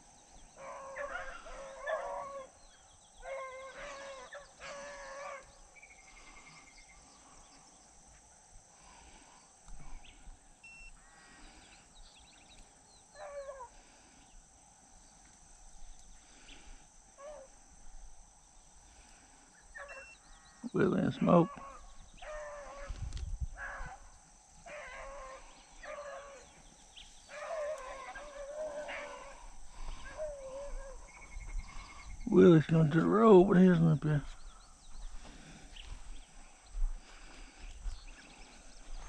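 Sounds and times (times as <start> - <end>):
faint dogs baying: 0.0 - 10.2, 12.6 - 14.6, 16.1 - 17.8, 18.8 - 39.0.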